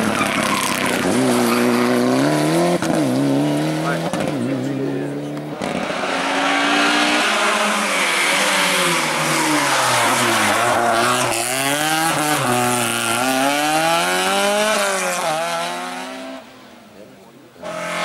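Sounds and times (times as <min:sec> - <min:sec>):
rally car engine revving: 0:00.0 - 0:16.6, 0:17.6 - 0:18.0.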